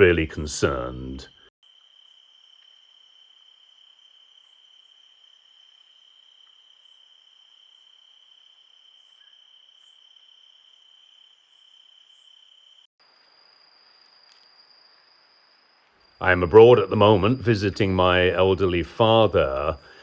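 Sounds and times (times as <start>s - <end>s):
insect chirps: 0.0s - 20.0s
insect high trill: 0.0s - 20.0s.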